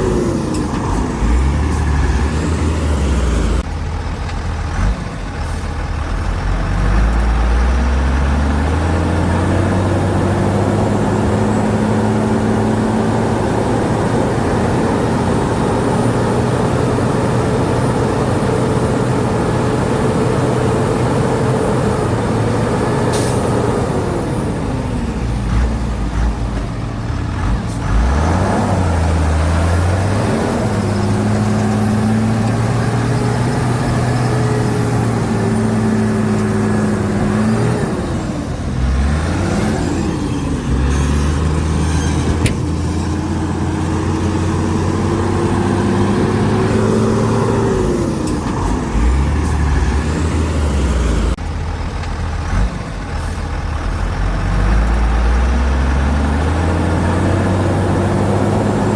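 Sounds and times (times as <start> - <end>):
bulldozer diesel engine revving: 0.0 - 58.9.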